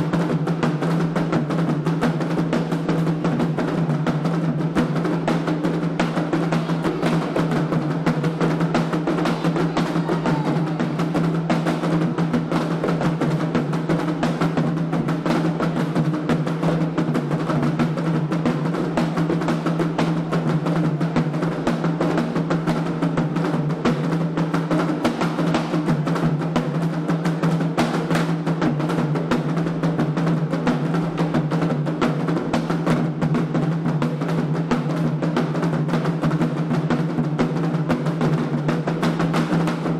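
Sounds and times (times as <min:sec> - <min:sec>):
hand drumming: 0:00.0 - 0:39.9.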